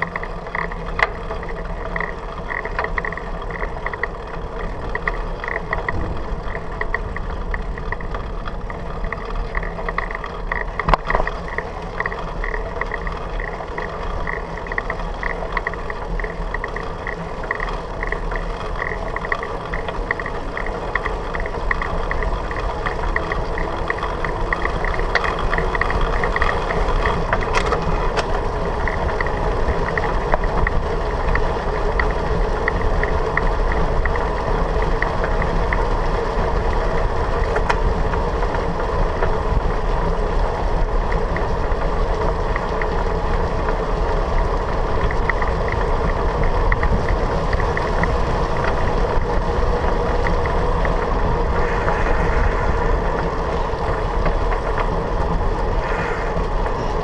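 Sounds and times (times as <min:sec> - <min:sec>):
bicycle rattling on pavement: 0:00.0 - 0:57.0.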